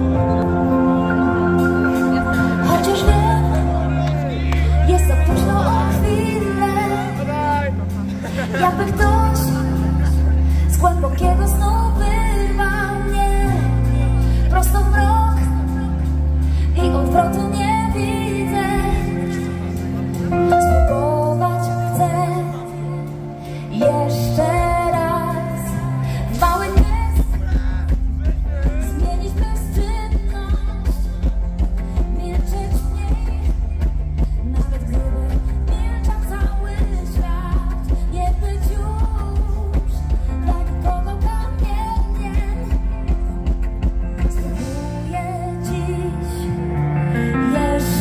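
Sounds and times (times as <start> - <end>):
bass and drums beat: 0.0 - 22.5, 23.1 - 46.0
live pop band playing: 0.0 - 48.0
person singing: 0.0 - 48.0.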